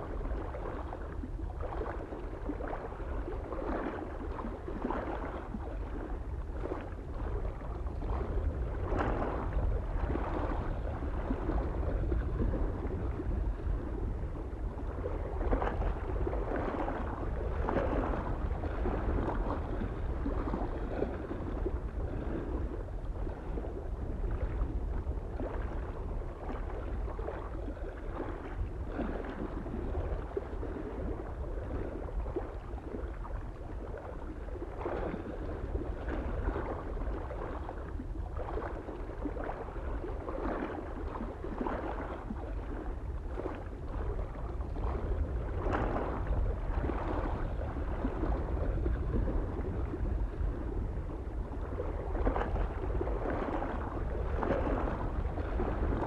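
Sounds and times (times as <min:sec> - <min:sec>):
waves lapping against shore: 0:00.0 - 0:56.0
wind rumble on microphone: 0:00.0 - 0:56.0.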